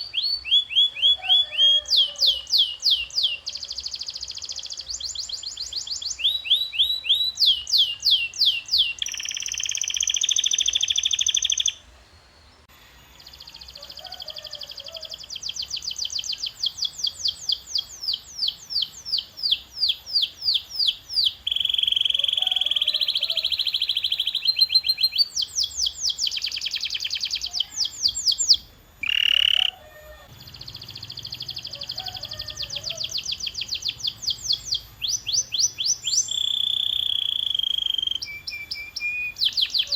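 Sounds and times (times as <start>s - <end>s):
canary singing high trills: 0.0s - 11.8s, 12.9s - 39.9s.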